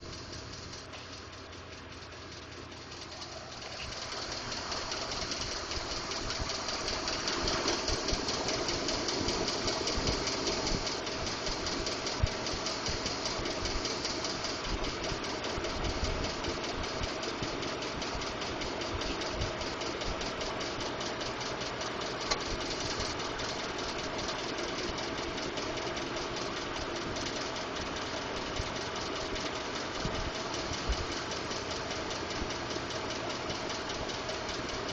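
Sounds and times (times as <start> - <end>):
fast steady engine ticking: 0.0 - 34.9
truck engine idling: 0.0 - 34.9.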